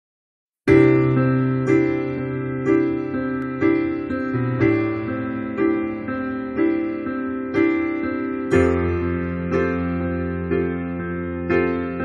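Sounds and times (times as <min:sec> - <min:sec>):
slow gentle piano music: 0:00.7 - 0:12.0.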